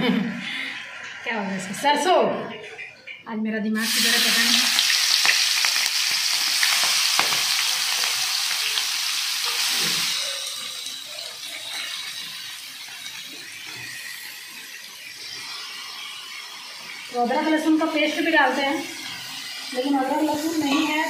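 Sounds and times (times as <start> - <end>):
food sizzling in hot oil: 3.8 - 21.0.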